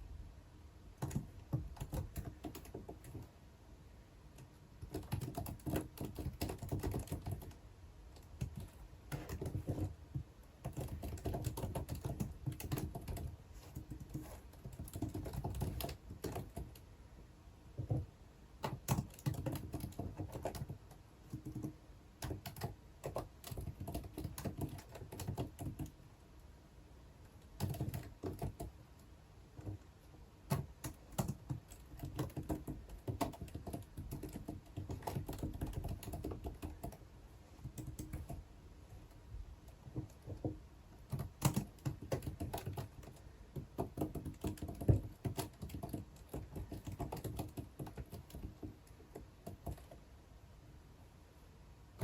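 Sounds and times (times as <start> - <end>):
typing on computer keyboard: 1.0 - 3.3, 4.3 - 16.9, 17.8 - 26.0, 27.3 - 50.1.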